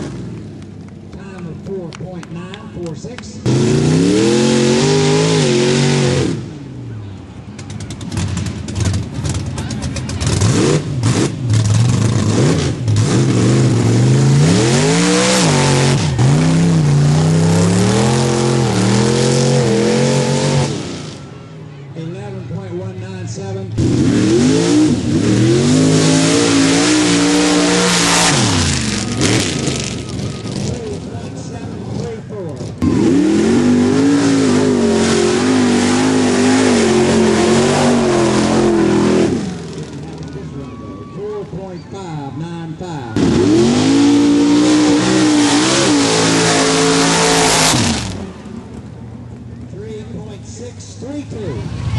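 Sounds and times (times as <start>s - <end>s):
truck engine revving: 0.0s - 21.7s, 23.5s - 40.7s, 41.4s - 51.9s.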